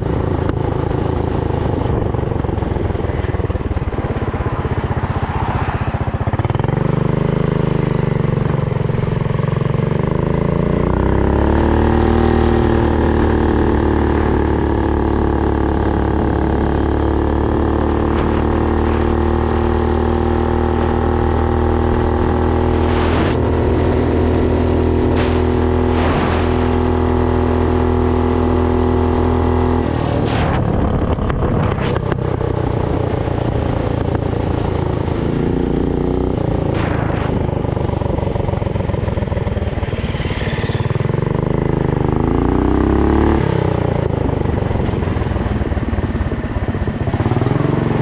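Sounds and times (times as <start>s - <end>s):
minibike engine running under load: 0.0s - 48.0s.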